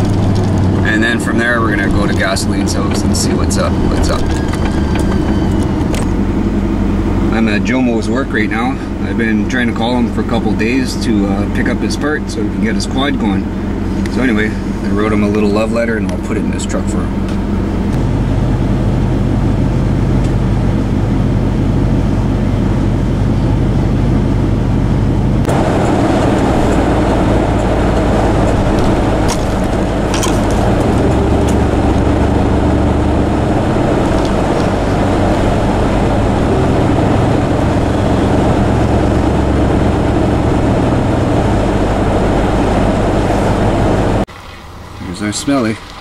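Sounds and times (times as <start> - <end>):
vehicle engine and road noise: 0.0 - 46.0.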